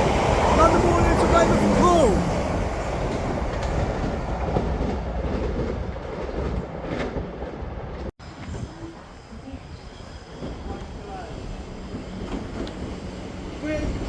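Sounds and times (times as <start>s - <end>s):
train passing rumble: 0.0s - 14.0s.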